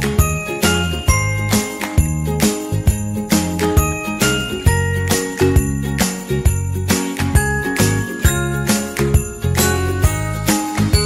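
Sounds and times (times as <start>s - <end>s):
upbeat music with jingling bells: 0.0s - 11.0s.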